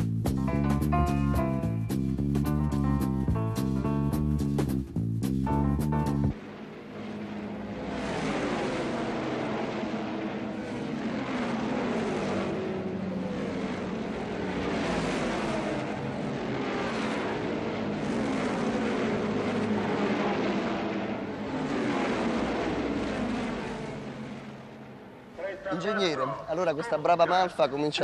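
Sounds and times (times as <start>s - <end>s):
race car engines passing: 5.2s - 28.0s.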